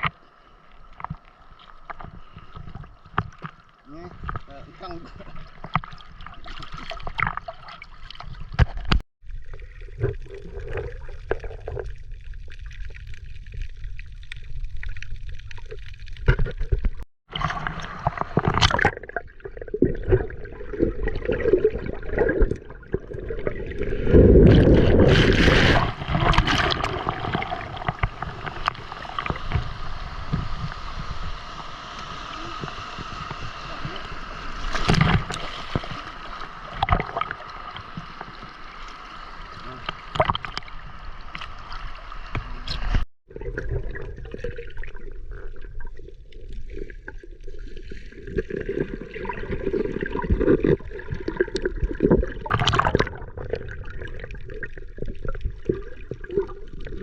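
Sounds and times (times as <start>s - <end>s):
water splashing and gurgling: 0.0s - 57.0s.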